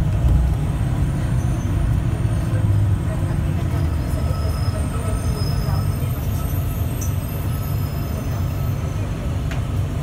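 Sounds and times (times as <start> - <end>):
train car low rumble: 0.0 - 10.0.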